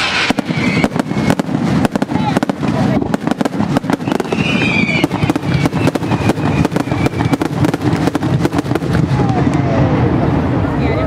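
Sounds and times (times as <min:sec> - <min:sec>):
shrill fireworks whistles: 0:00.0 - 0:09.6
fireworks bangs and crackling: 0:00.0 - 0:11.0.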